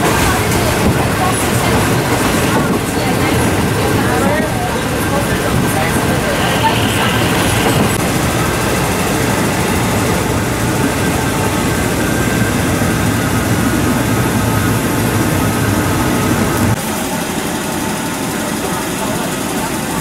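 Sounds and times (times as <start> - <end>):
train rumble from inside carriage: 0.0 - 20.0.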